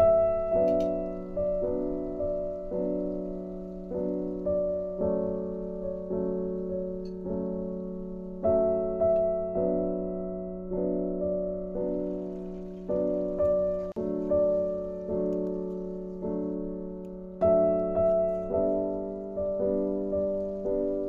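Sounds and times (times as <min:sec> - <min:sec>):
slow piano notes: 0:00.0 - 0:21.0.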